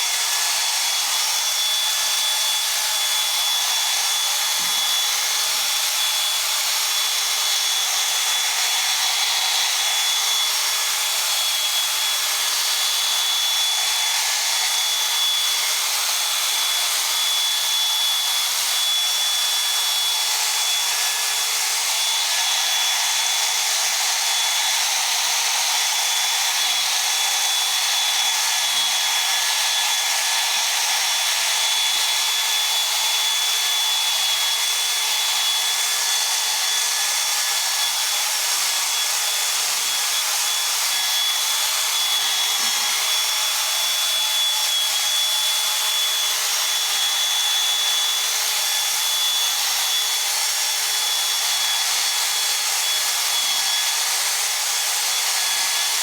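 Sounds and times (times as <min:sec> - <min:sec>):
power tool motor whine: 0:00.0 - 0:56.0.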